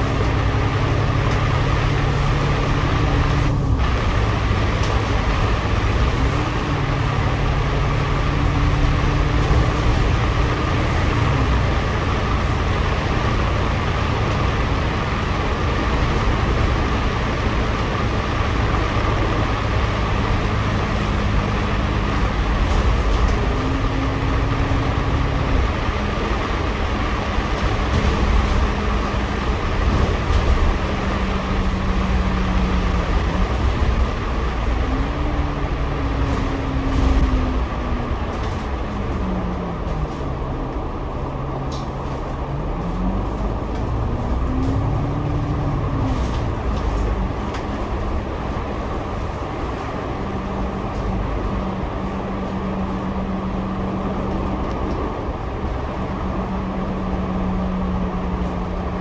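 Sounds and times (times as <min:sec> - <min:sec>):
bus engine humming: 0:00.0 - 0:59.0
road noise: 0:00.0 - 0:59.0.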